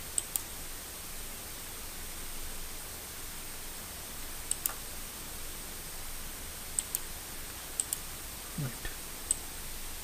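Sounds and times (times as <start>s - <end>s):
microphone hiss: 0.0s - 10.0s.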